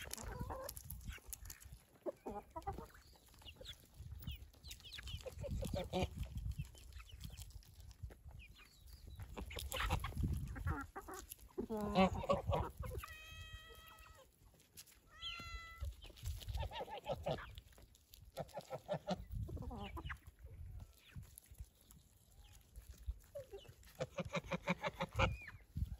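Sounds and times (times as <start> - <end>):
chickens clucking: 0.0 - 25.9
drawn-out chicken calls: 0.0 - 25.9.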